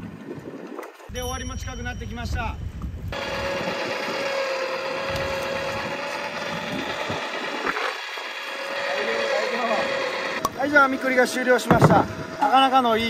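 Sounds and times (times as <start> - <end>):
net hauler mechanical whine: 1.1 - 13.0.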